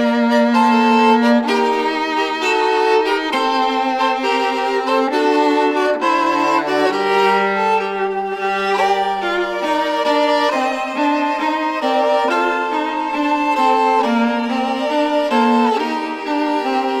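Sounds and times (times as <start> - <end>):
viola and violin duet: 0.0 - 17.0.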